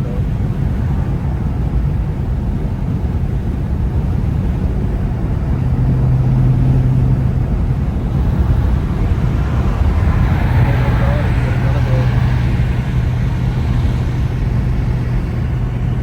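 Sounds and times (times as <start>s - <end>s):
car exhaust droning: 0.0s - 16.0s
road noise: 0.0s - 16.0s.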